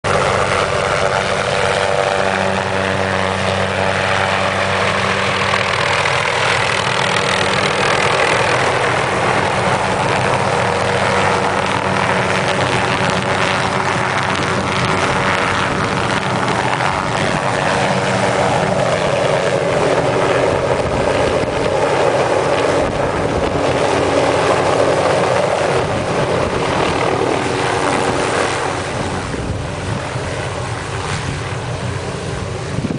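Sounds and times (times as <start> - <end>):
helicopter turbine and rotor: 0.0 - 32.9.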